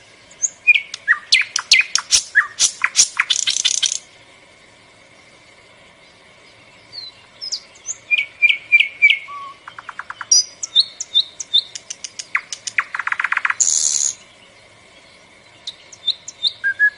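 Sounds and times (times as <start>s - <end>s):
songbird chirping: 0.0s - 16.9s.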